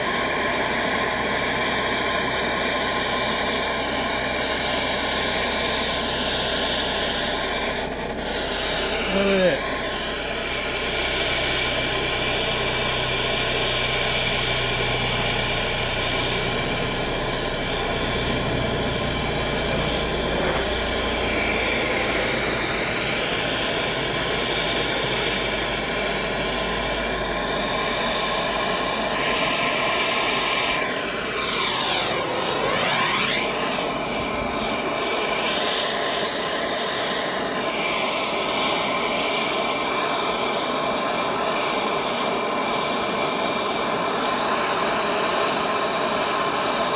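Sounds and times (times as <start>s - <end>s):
torch low rumble: 0.0s - 46.8s
gas torch flame hissing: 0.0s - 46.9s.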